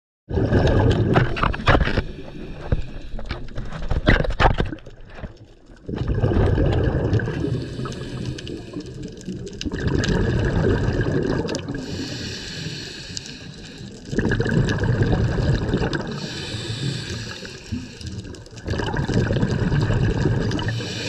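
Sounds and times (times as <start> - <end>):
clicks and knocks underwater: 0.3 - 11.8, 14.0 - 16.3, 17.4 - 20.8
underwater gurgling rush: 0.3 - 21.0.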